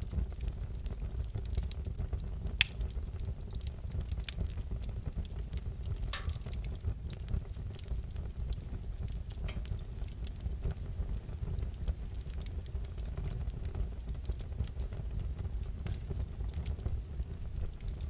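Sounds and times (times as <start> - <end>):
low fire rumble: 0.0 - 18.0
wood fire crackling: 0.0 - 18.0.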